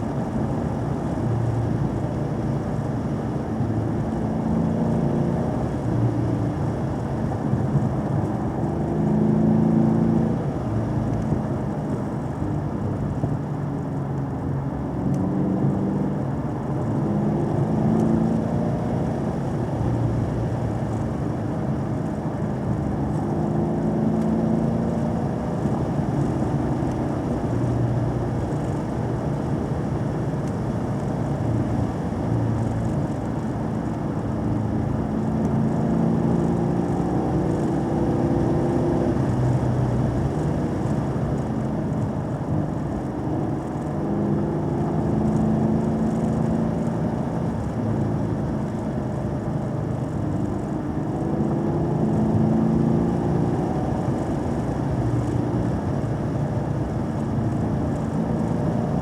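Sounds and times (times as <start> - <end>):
car engine accelerating: 0.2 - 59.0.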